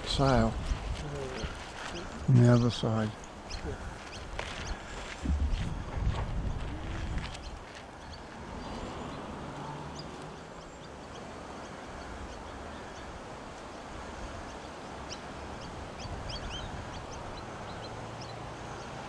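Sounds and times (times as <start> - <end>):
small birds chirping: 0.0 - 19.0
wind rumbling on microphone: 0.0 - 19.0.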